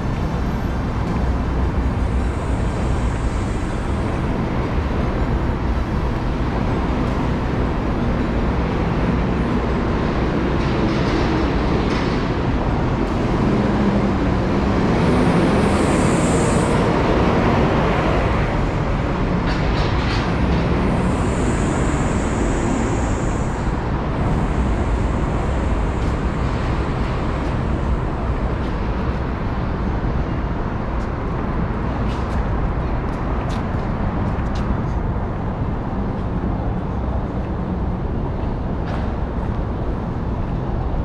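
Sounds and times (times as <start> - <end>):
city traffic noise: 0.0 - 41.0.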